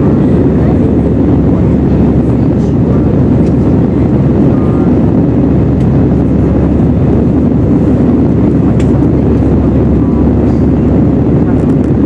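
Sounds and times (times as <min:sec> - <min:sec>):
jet engines roaring: 0:00.0 - 0:12.0
rushing airflow: 0:00.0 - 0:12.0.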